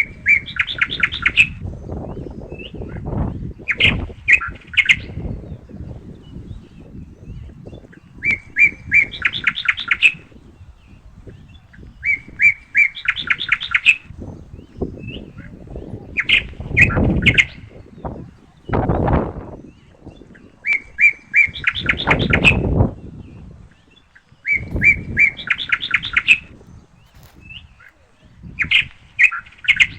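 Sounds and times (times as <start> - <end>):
songbird singing: 0.0 - 29.9
wind rumble on microphone: 0.0 - 29.9.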